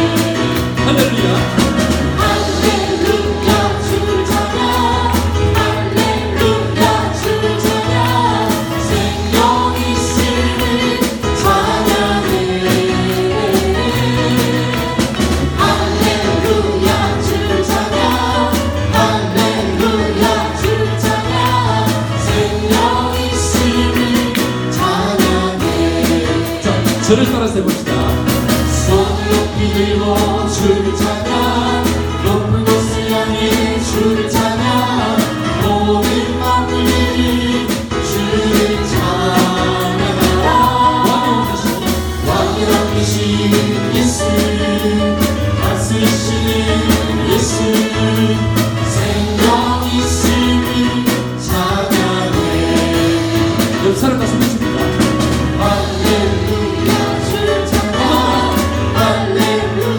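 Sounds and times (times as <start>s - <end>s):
band accompaniment with bass: 0.0s - 59.9s
congregation singing praise song: 0.0s - 59.9s.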